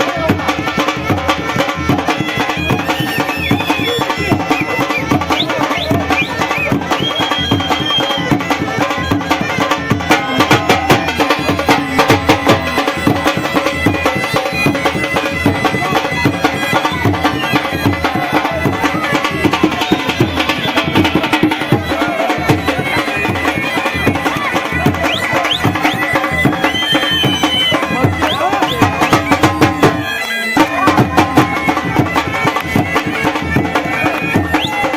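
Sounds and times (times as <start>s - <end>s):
dense drum beat: 0.0s - 34.9s
held melody line: 0.0s - 34.9s.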